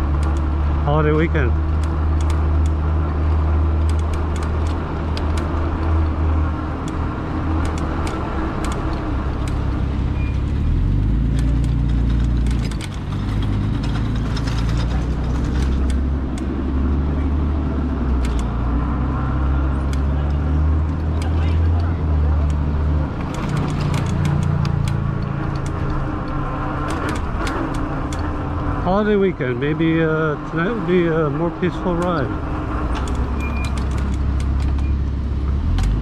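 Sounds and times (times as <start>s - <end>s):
sharp clicks and rattles: 0.0s - 16.7s, 17.8s - 18.8s, 19.7s - 35.0s.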